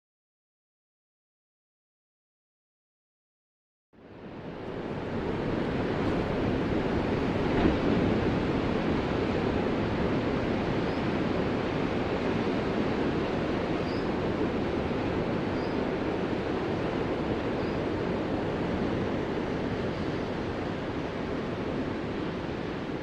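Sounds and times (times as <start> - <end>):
ocean waves: 4.0 - 23.0.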